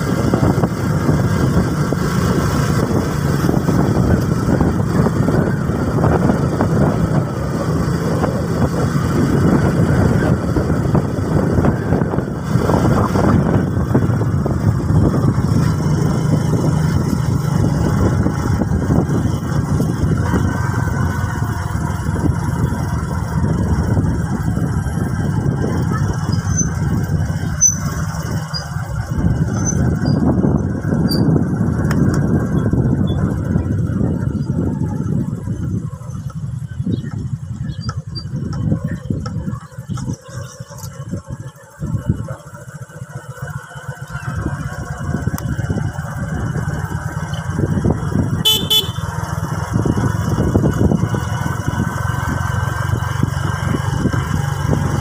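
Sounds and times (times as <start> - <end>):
wind rush on microphone: 0.0 - 42.4, 44.0 - 55.0
motorcycle engine running: 0.0 - 55.0.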